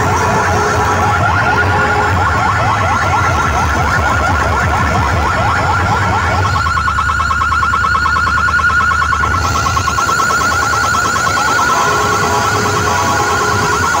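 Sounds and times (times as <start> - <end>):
heavy bass: 0.0 - 14.0
siren-like synth tone: 0.0 - 14.0.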